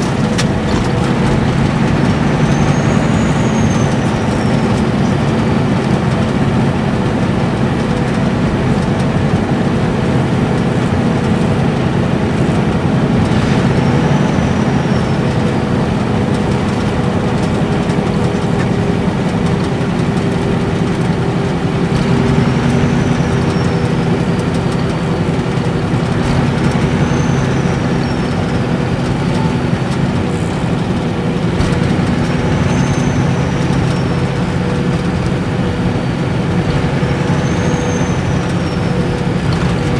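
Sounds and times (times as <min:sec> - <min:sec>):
diesel engine hum: 0:00.0 - 0:39.9
tyre and road noise: 0:00.0 - 0:39.9.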